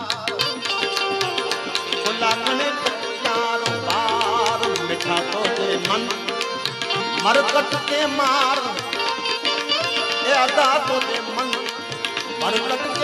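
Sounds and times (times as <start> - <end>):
harmonium: 0.0 - 13.0
man singing: 0.0 - 13.0
tabla strokes: 0.0 - 13.0.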